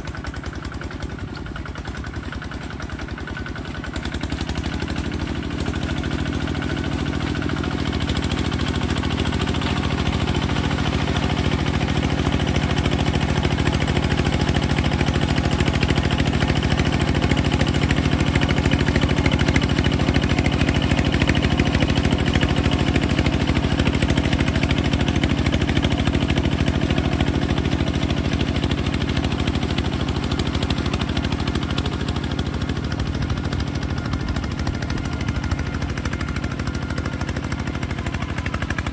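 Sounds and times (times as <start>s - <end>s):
bulldozer engine running: 0.0s - 38.9s.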